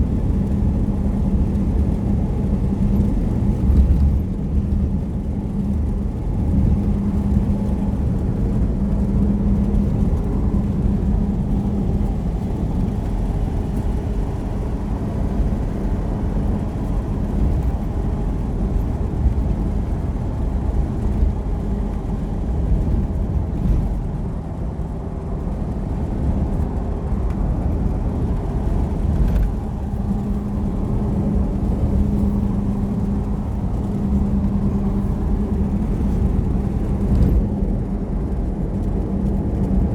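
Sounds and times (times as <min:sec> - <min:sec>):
droning hum: 0:00.0 - 0:39.9
vehicle engine and road rumble: 0:00.0 - 0:39.9.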